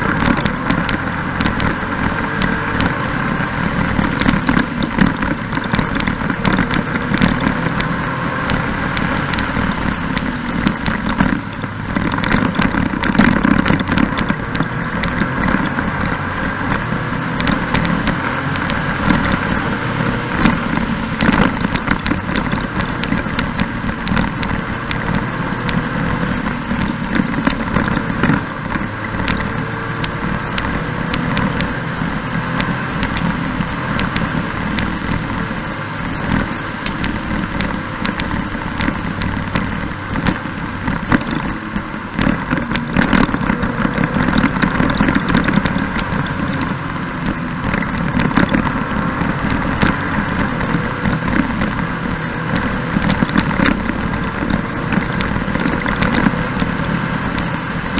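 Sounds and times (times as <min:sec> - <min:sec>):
three-wheeler engine running: 0:00.0 - 0:57.9
wind rushing over microphone: 0:00.0 - 0:57.9.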